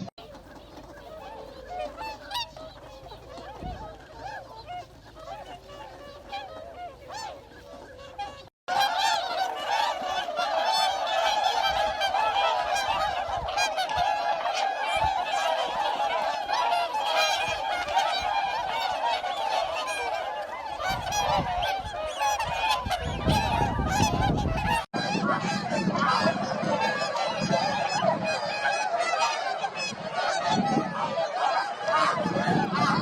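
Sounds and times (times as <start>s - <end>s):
geese honking: 0.0s - 33.0s.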